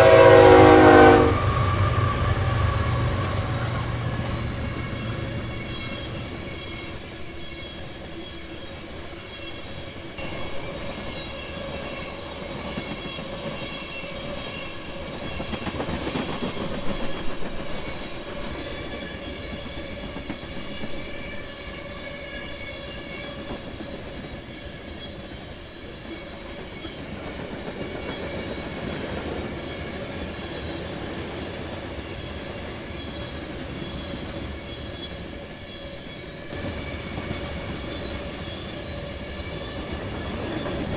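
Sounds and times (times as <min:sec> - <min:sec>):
train wheels clicking and rumbling: 0:00.0 - 0:40.9.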